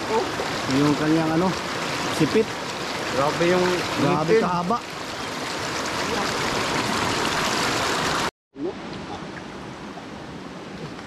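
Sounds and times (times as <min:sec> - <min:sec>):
rushing stream water: 0:00.0 - 0:11.0.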